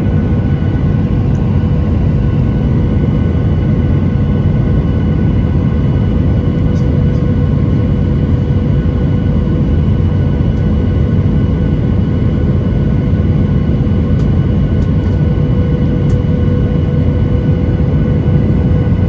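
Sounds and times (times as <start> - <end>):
jet engines rumbling: 0.0 - 19.0
steady tonal hum: 0.0 - 19.0.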